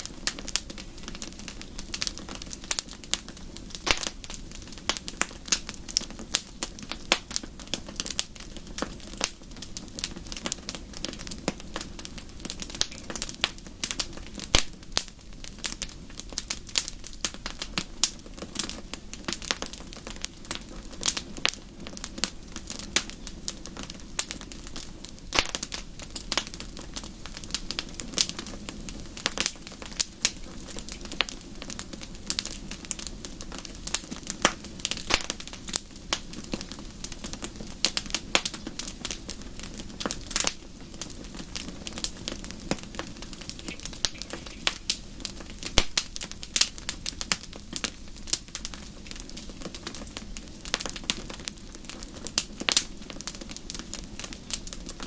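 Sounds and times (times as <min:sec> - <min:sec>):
low rush of flames: 0:00.0 - 0:55.0
wood fire crackling and popping: 0:00.0 - 0:55.0.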